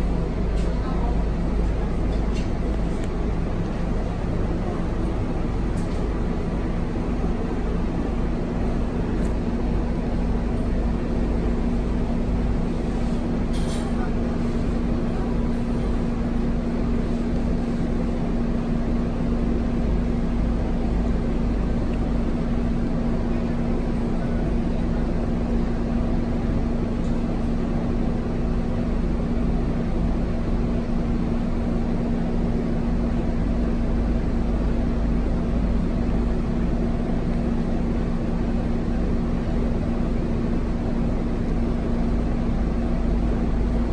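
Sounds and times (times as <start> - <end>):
bus diesel engine idling: 0.0 - 43.9.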